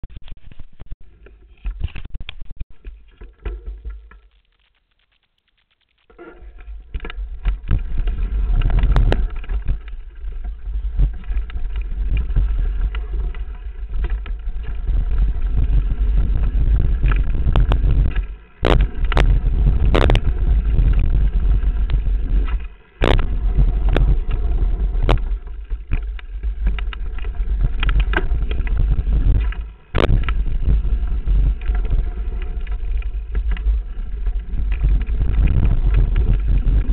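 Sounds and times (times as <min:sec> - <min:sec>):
wind rumble on microphone: 0:06.4 - 0:36.9
bike rattling and knocking: 0:06.9 - 0:36.9.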